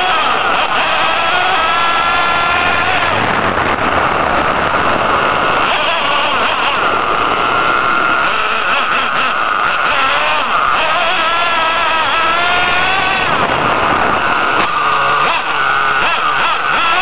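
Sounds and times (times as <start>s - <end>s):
small nitro engine running at high revs: 0.0s - 17.0s
tyres rumbling on gravel: 0.0s - 17.0s.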